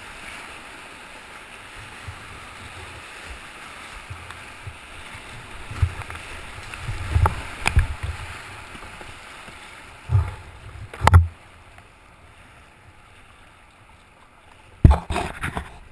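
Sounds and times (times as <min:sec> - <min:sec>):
whitewater rushing: 0:00.0 - 0:12.8
paddle strokes: 0:00.0 - 0:15.9
waves splashing over bow: 0:00.0 - 0:15.9.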